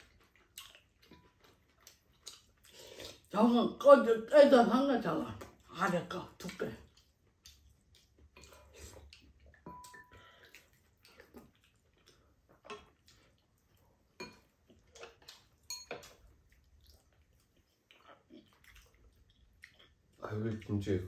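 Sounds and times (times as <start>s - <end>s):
quiet chewing: 0.0s - 3.3s, 5.4s - 21.0s.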